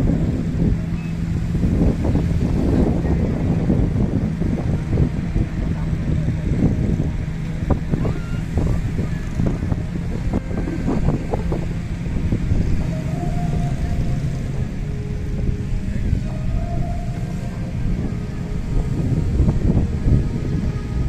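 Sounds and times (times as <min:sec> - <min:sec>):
steady low hum: 0:00.0 - 0:21.0
wind buffeting microphone: 0:00.0 - 0:21.0.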